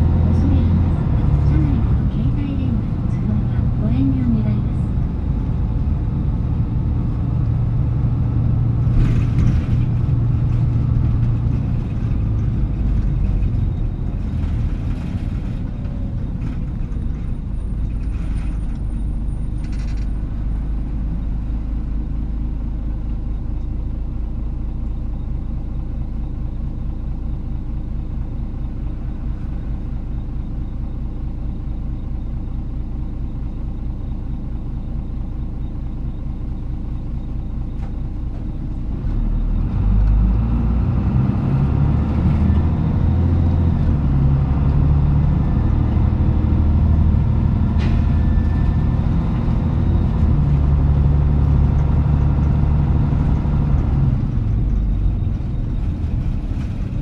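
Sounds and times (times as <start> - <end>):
diesel bus engine humming: 0.0 - 57.0.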